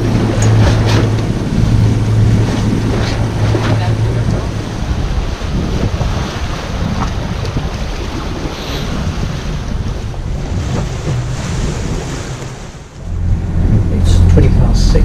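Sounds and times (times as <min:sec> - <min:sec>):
ocean waves rushing: 0:00.0 - 0:15.0
wind buffeting microphone: 0:00.0 - 0:15.0.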